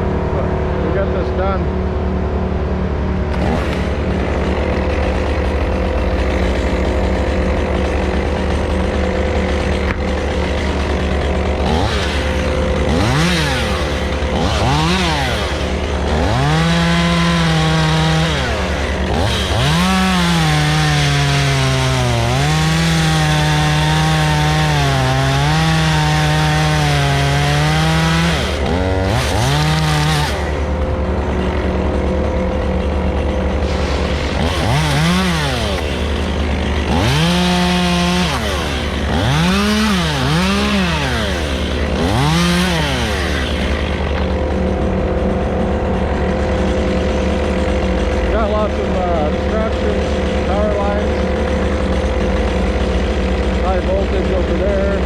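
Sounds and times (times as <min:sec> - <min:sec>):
low engine drone: 0:00.0 - 0:55.0
chainsaw cutting wood: 0:02.1 - 0:55.0.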